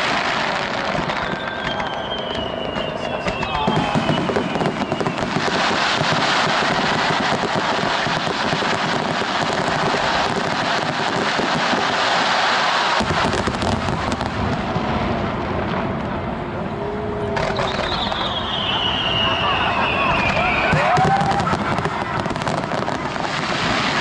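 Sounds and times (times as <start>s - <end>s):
deep firework booms: 0.0s - 24.0s
fireworks crackling: 0.0s - 24.0s.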